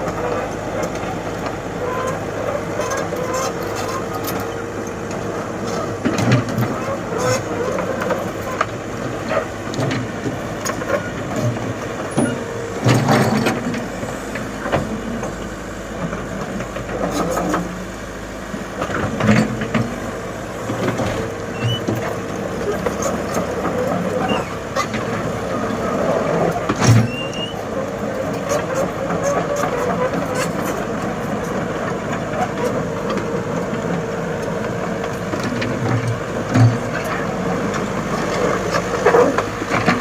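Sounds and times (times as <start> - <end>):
excavator engine droning: 0.0 - 40.0.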